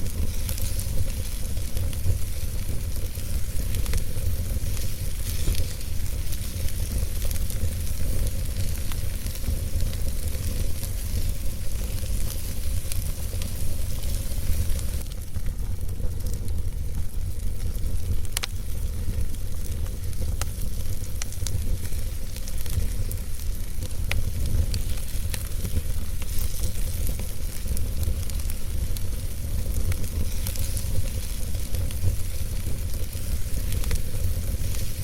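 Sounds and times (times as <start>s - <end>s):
fire rumbling and hissing: 0.0s - 35.0s
logs crackling and popping: 0.0s - 35.0s.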